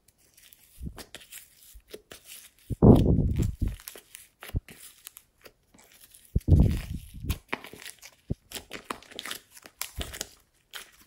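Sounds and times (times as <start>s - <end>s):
sticky slime squelches: 0.3s - 11.0s.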